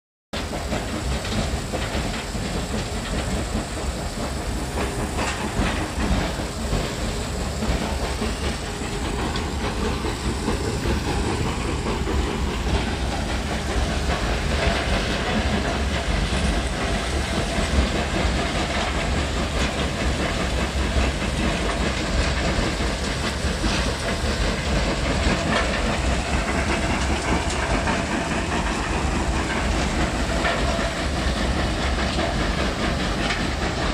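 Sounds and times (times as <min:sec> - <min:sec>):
stone crushing plant rumbling: 0:00.4 - 0:33.9.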